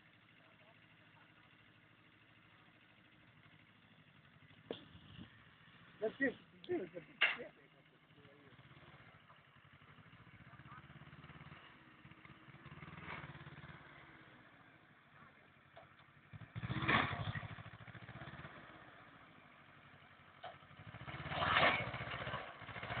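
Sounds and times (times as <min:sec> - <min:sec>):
tractor engine revving: 0:00.0 - 0:23.0.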